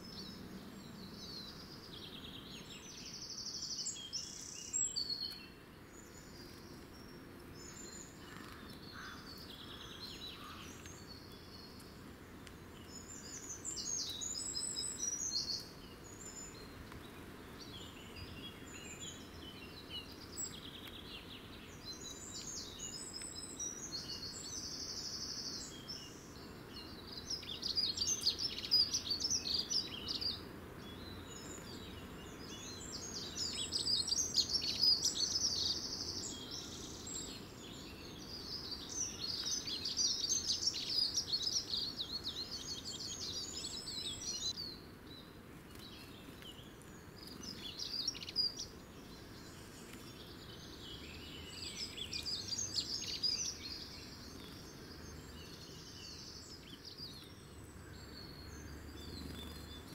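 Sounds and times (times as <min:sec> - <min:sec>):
faint low background noise: 0:00.0 - 0:59.9
songbirds warbling: 0:00.0 - 0:59.9.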